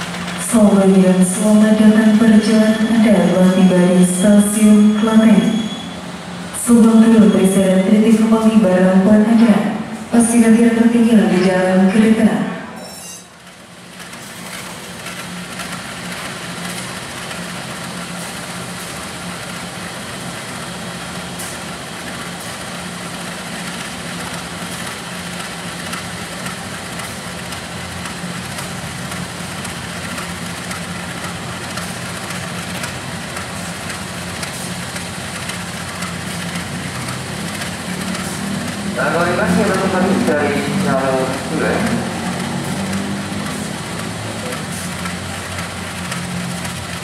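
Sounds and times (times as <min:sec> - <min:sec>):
diesel locomotive engine running: 0:00.0 - 0:47.0.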